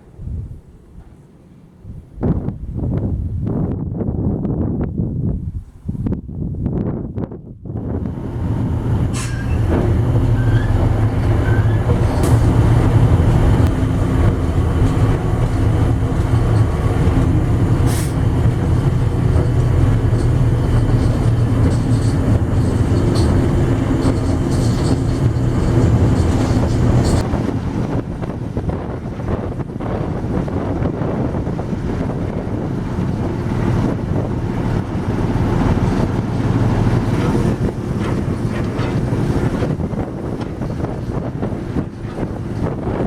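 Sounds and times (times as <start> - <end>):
train rumbling: 0.0 - 6.0, 6.7 - 43.0.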